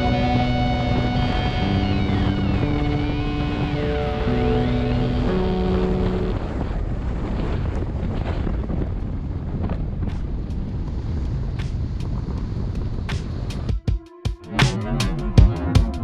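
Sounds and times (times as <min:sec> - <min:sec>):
wind rushing over microphone: 0:00.0 - 0:13.7.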